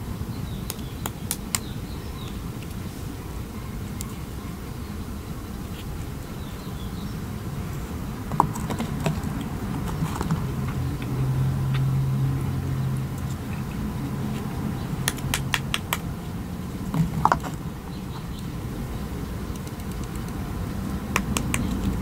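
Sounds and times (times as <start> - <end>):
low steady hum: 0.0 - 22.0
steady low rumble: 0.0 - 22.0.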